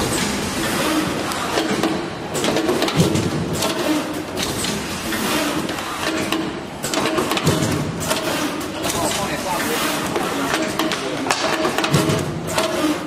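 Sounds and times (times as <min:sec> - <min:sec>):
machine clicks and knocks: 0:00.0 - 0:13.0.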